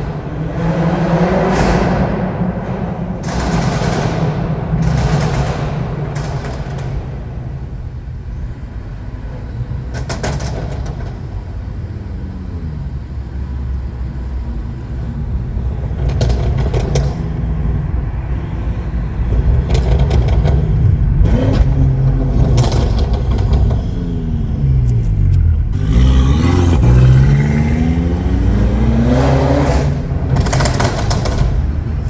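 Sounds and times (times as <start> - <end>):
sharp exhaust cracks: 0.0 - 17.6, 19.1 - 32.0
car engine revving: 0.0 - 32.0.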